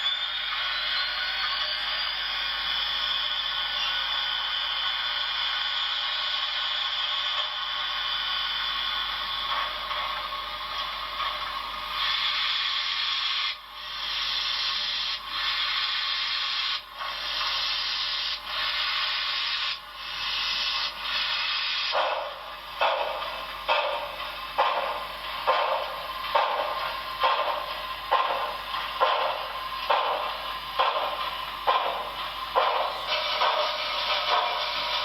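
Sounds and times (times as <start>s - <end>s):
model train steam hiss: 0.0s - 35.0s.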